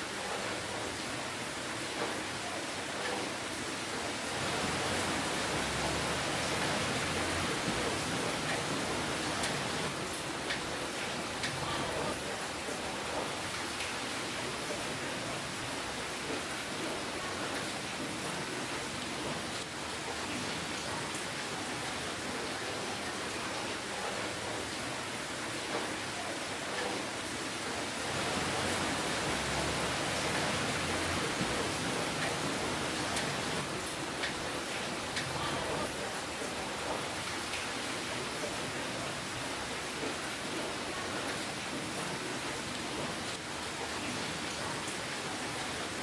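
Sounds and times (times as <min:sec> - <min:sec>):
rain hiss: 0:00.0 - 0:46.0.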